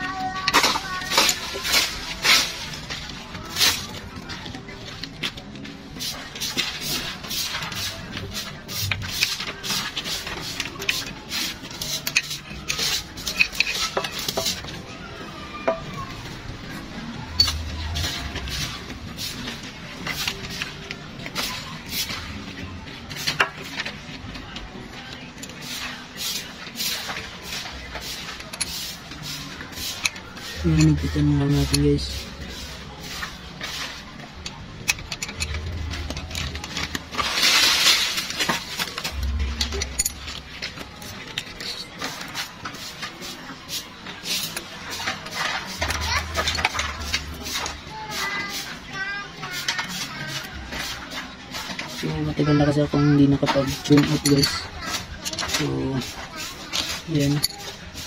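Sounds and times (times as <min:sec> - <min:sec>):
metal tools clinking and scraping: 0:00.0 - 0:15.0, 0:15.6 - 0:58.0.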